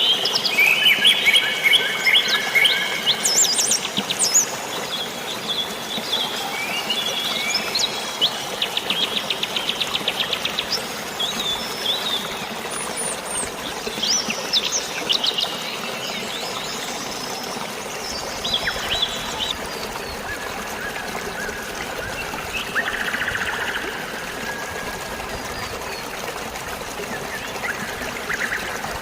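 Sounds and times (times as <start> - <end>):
birds chirping and trilling: 0.0 - 24.6
flowing water or rain: 0.0 - 29.0.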